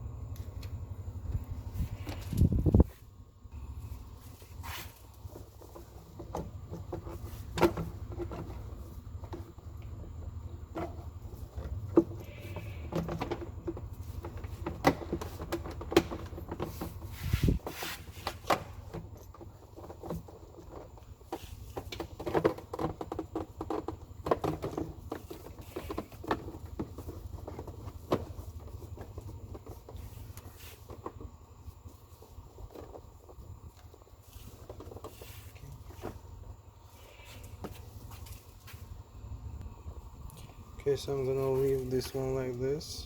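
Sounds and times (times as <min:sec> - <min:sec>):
steady low hum: 0:00.0 - 0:22.1, 0:23.4 - 0:43.0.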